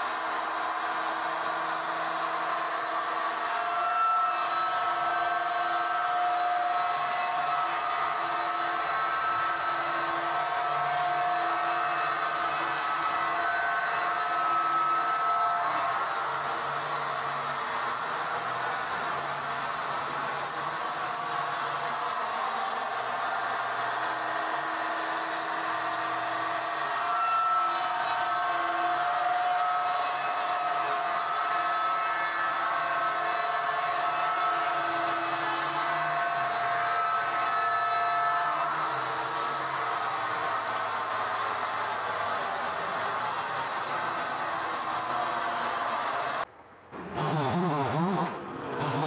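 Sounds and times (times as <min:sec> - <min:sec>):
band saw whining through timber: 0:00.0 - 0:49.0.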